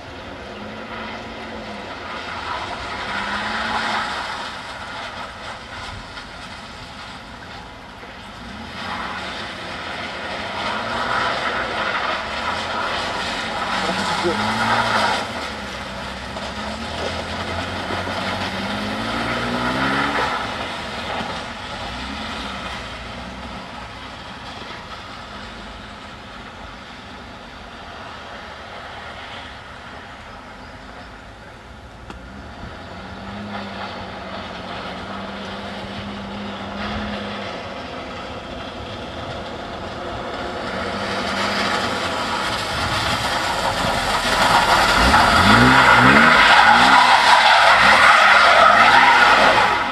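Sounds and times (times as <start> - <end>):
car engine revving: 0.0 - 29.2, 31.4 - 49.9.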